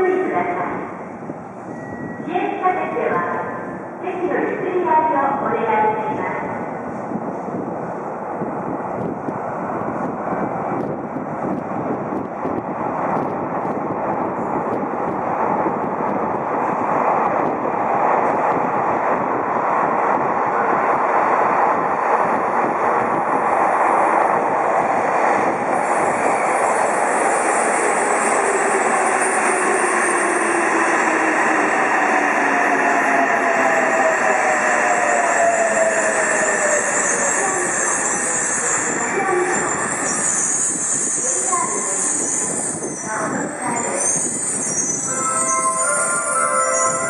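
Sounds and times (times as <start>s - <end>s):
train rumbling through tunnel: 0.0s - 47.0s.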